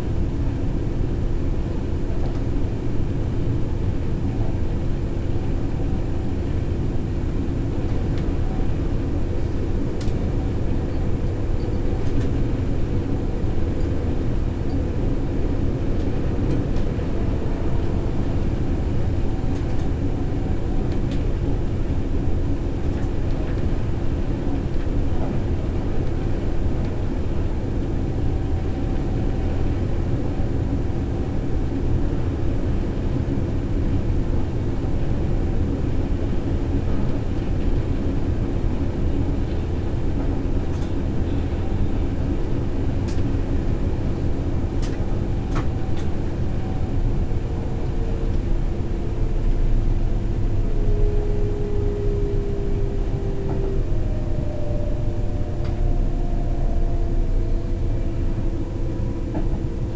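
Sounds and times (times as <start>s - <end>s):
electric train whine: 0.0s - 59.9s
wheels rumbling on rails: 0.0s - 59.9s.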